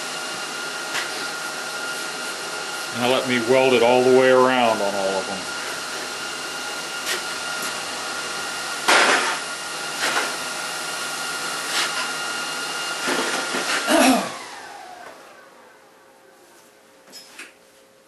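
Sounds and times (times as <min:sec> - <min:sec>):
shop equipment whirring hum: 0:00.0 - 0:18.0.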